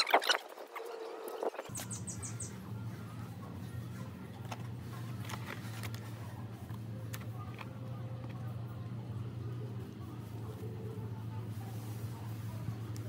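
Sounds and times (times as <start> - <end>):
steady low hum: 0.6 - 13.0.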